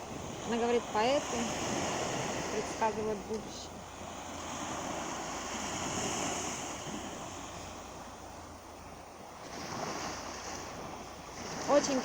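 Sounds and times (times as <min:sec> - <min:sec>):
waves washing on beach: 0:00.0 - 0:12.0.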